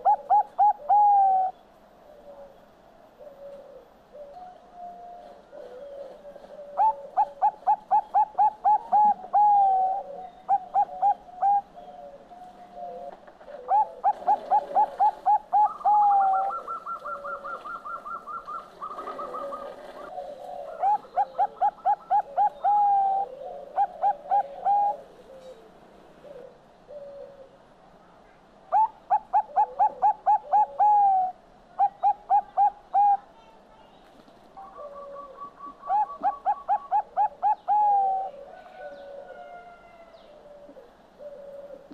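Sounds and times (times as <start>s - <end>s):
dove cooing: 0.0s - 27.6s, 28.7s - 33.5s, 34.6s - 41.9s.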